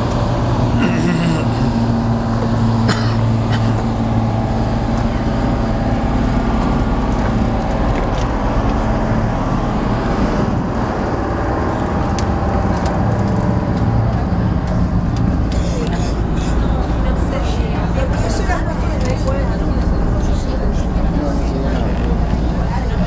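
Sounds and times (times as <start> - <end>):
boat engines droning: 0.0 - 23.0
constant rushing noise: 0.0 - 23.0.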